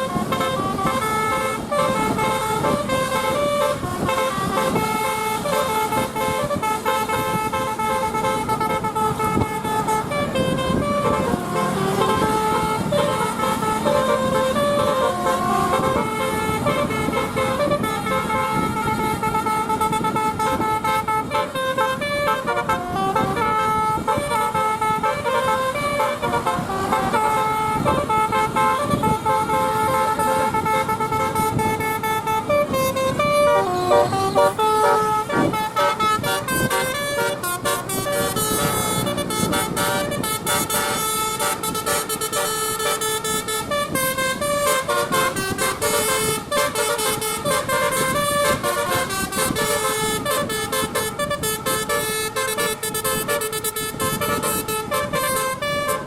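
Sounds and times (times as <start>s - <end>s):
bus horn playing a tune: 0.0s - 56.0s.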